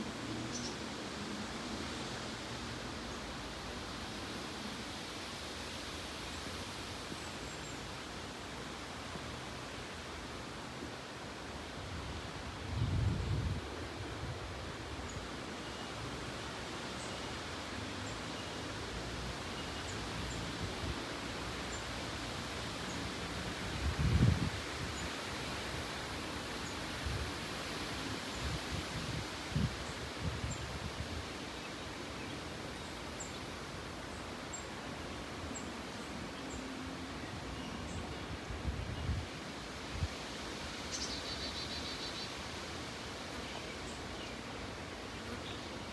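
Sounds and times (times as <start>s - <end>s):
outdoor noise: 0.0s - 45.9s.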